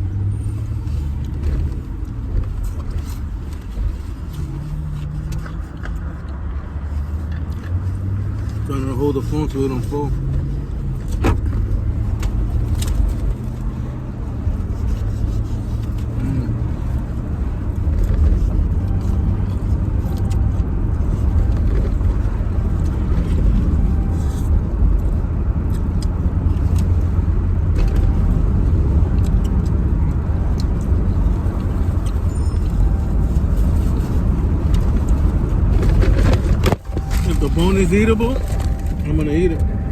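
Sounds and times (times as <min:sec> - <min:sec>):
traffic rumble: 0:00.0 - 0:39.9.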